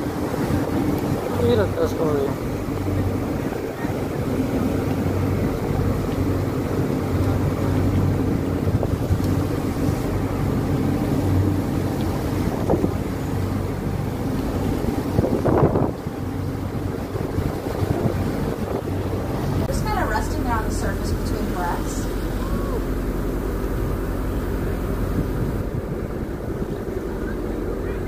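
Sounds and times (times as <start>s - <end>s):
motor boat engines droning: 0.0s - 28.0s
rushing water from wake: 0.0s - 28.0s
wind buffeting microphone: 0.0s - 28.0s.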